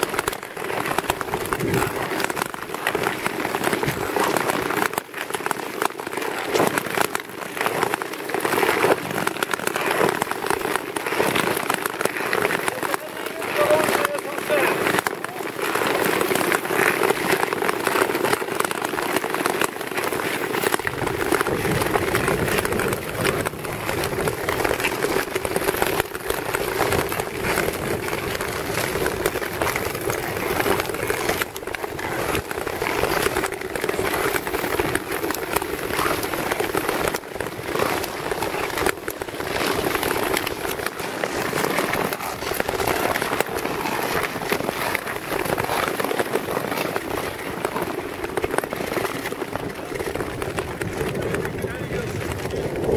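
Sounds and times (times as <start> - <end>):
skates scraping on ice: 0.0 - 52.9.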